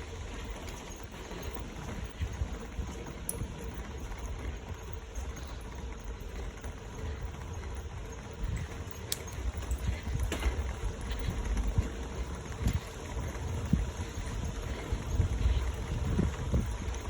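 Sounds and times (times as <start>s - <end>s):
bicycle tyres rolling on boardwalk: 0.0s - 17.0s.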